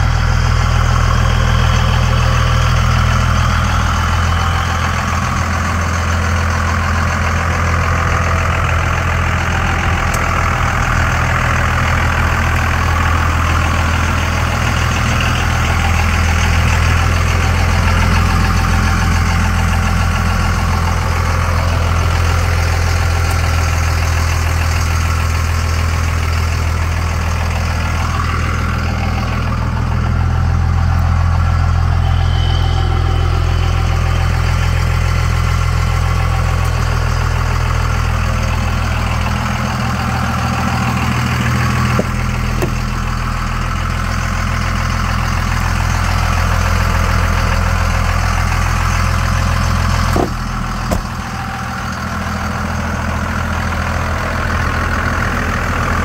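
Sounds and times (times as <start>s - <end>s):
pickup engine idling: 0.0s - 56.0s.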